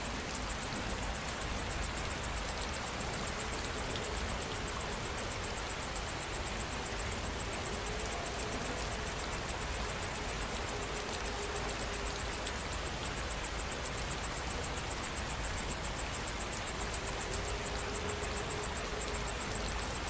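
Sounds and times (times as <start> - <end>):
insect chirping: 0.0 - 20.0
steady rain falling: 0.0 - 20.0.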